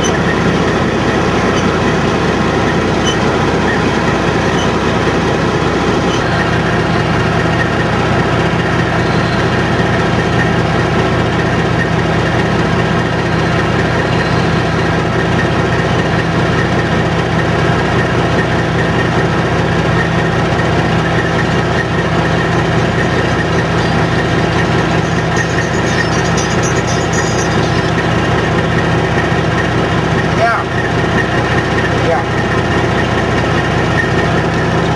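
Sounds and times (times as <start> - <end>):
combine harvester engine and threshing: 0.0 - 34.9.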